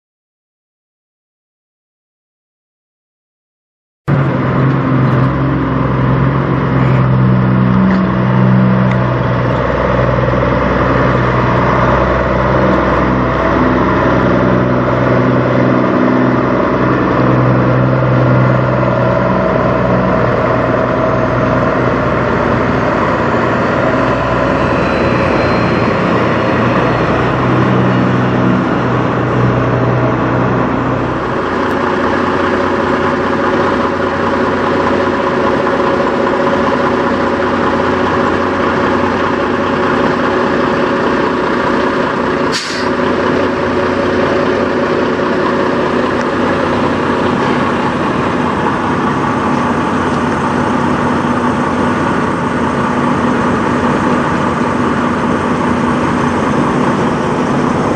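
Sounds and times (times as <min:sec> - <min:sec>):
truck diesel engine running: 0:04.1 - 0:57.9.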